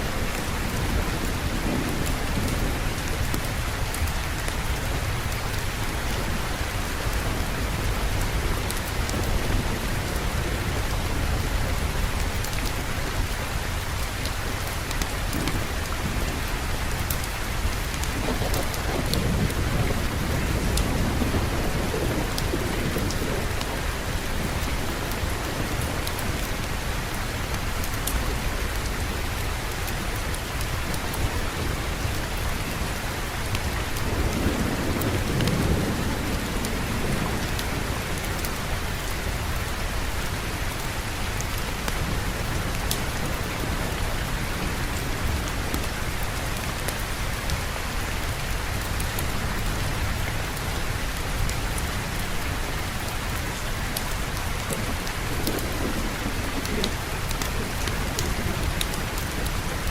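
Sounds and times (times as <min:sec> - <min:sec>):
thunder rumbling: 0:00.0 - 0:29.6, 0:30.4 - 0:59.9
heavy rain: 0:00.0 - 0:59.9.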